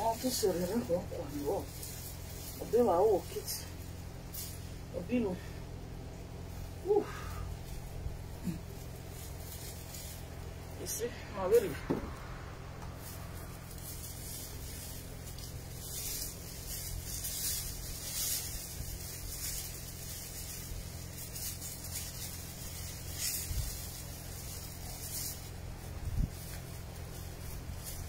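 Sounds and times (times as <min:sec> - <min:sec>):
rustling of plant leaves: 0:00.0 - 0:28.0
steady low hum: 0:00.0 - 0:28.0.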